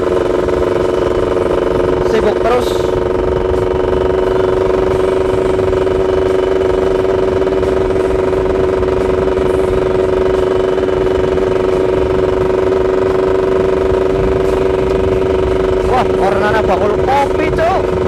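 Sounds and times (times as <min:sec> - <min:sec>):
two-stroke engine cruising: 0:00.0 - 0:18.0
wind rush on microphone: 0:00.0 - 0:18.0.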